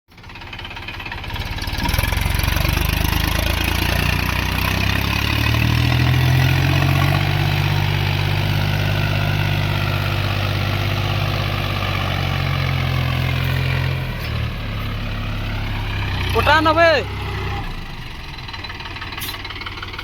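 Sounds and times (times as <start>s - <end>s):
tractor diesel engine running: 0.1s - 20.0s.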